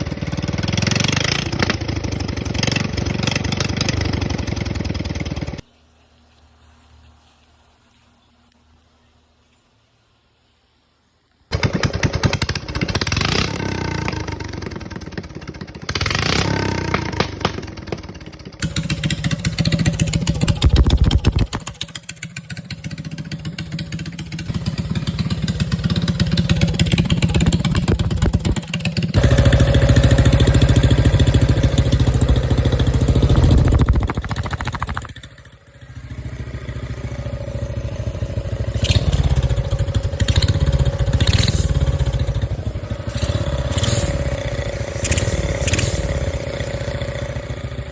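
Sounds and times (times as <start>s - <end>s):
minibike engine revving: 0.0s - 5.6s, 11.5s - 47.9s.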